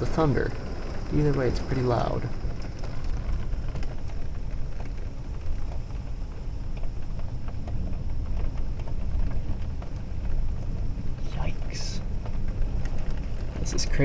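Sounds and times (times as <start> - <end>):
falling rain: 0.0 - 14.0
rain ticking on glass: 0.0 - 14.0
thunder rumbling: 0.0 - 14.0
wind: 0.0 - 14.0.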